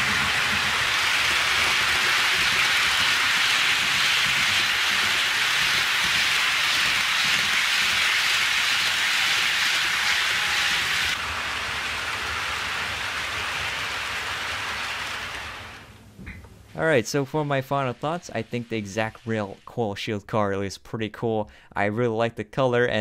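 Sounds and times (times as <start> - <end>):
model train wheels on rails: 0.0 - 20.0.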